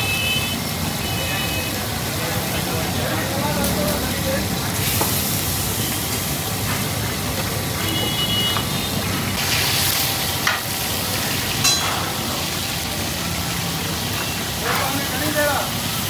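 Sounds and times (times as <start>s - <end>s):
fish sizzling in oil: 0.0s - 16.0s.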